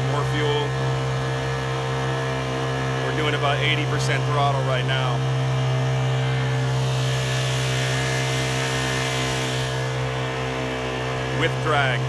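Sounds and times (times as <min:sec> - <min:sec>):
outboard engine running: 0:00.0 - 0:12.0.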